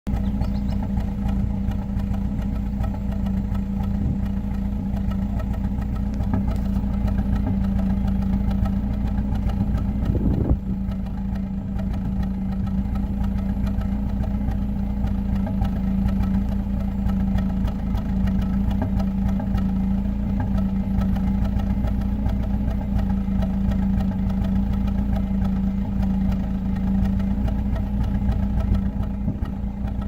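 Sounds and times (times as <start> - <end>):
car engine idling with misfire: 0.1 - 30.0.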